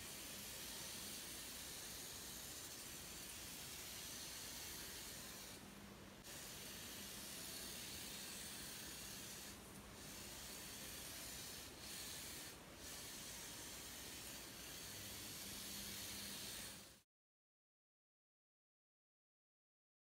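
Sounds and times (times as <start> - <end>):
rc car tyres sliding on concrete: 0.0 - 5.6, 6.2 - 17.0
faint electric motor hum: 0.0 - 17.0.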